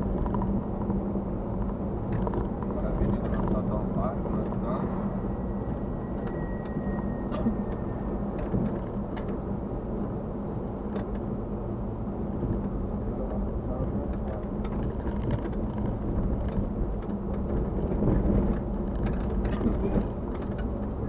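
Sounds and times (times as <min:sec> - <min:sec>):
road and tyre noise: 0:00.0 - 0:21.0.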